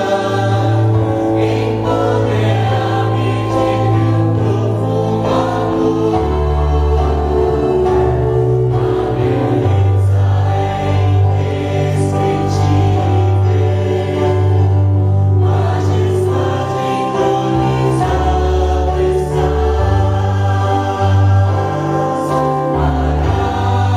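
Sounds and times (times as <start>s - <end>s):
group singing with instruments: 0.0s - 23.9s.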